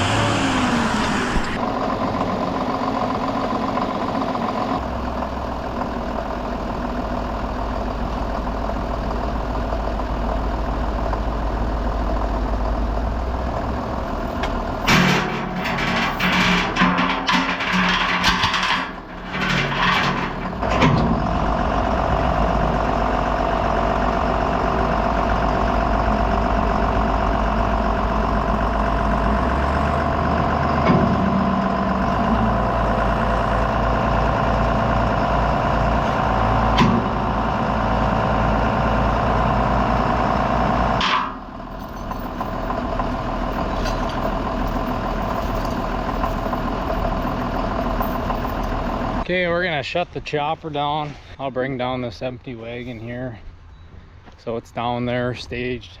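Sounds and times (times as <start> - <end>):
quieter engine running: 0.0 - 51.2
tractor and forage chopper running: 0.0 - 51.4.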